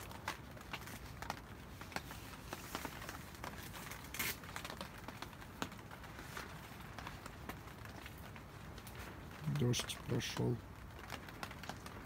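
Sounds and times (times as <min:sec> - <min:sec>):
irregular clicks and crackles: 0:00.0 - 0:12.0
low background hiss: 0:00.0 - 0:12.0.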